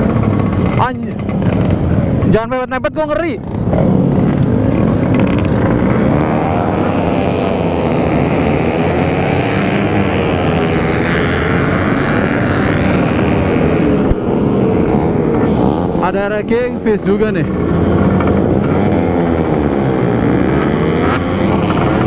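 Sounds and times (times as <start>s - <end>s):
two-stroke engine revving high: 0.0s - 2.6s, 3.4s - 22.0s.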